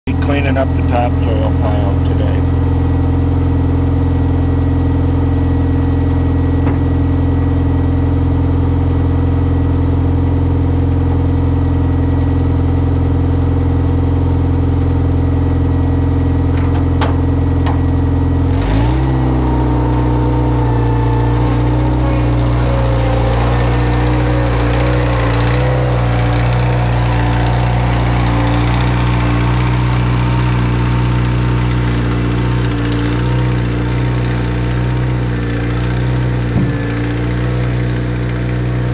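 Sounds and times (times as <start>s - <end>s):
loader engine running: 0.0s - 38.9s.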